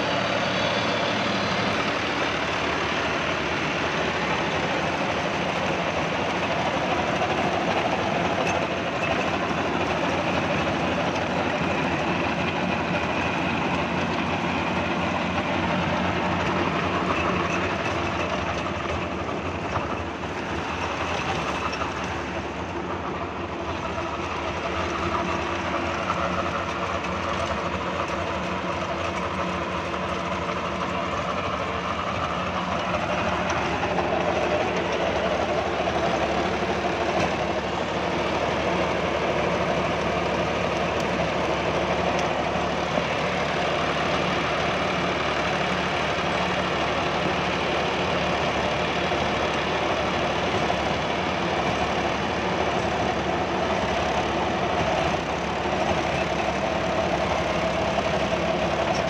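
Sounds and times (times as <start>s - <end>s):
diesel tractor engine under load: 0.0s - 59.0s
rotary tiller in soil: 0.0s - 59.0s.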